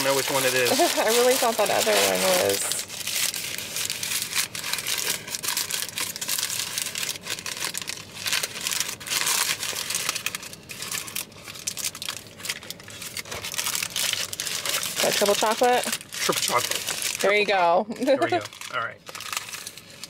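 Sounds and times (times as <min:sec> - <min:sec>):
paper wrapper crinkling: 0:00.0 - 0:20.0.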